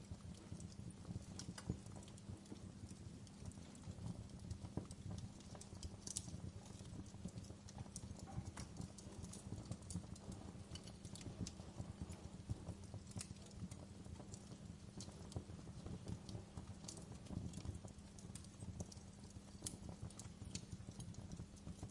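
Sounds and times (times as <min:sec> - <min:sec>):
low rumble of flames: 0:00.0 - 0:21.9
wood fire pops and snaps: 0:00.0 - 0:21.9.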